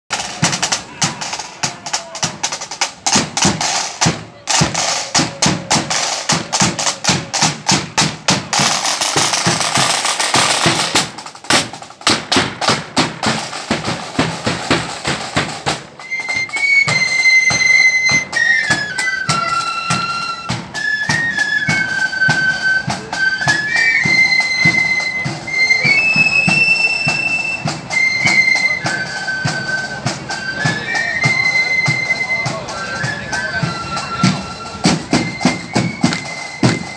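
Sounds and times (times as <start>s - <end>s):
high flute melody: 0.1s - 36.9s
snare drums beating: 0.1s - 36.9s.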